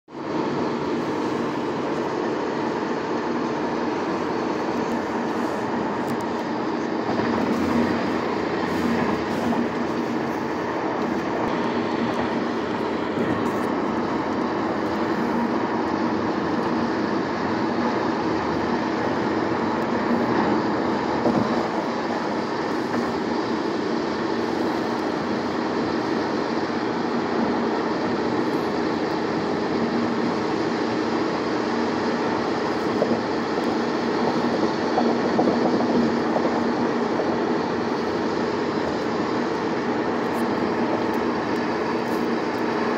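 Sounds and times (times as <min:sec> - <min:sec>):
tyre and road noise in car: 0:00.2 - 0:42.9.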